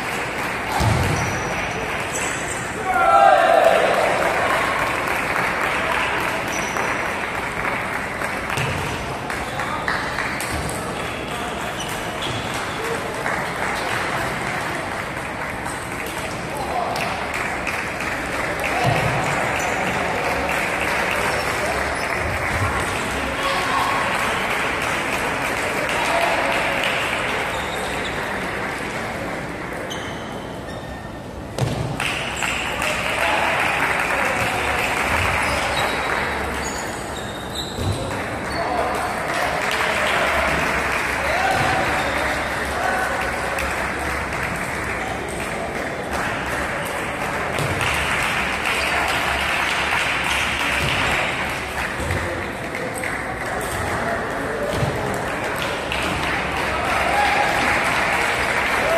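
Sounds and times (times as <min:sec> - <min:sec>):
murmur of spectators' voices: 0:00.0 - 0:58.9.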